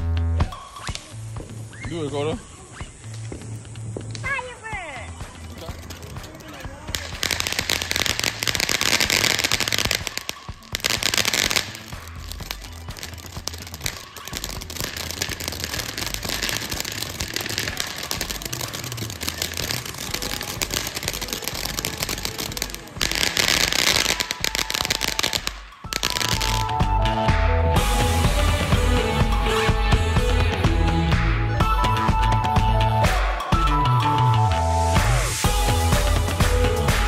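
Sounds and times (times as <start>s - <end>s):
fireworks crackling: 0.0s - 27.2s, 27.8s - 33.6s
background music with bass line: 0.0s - 37.0s.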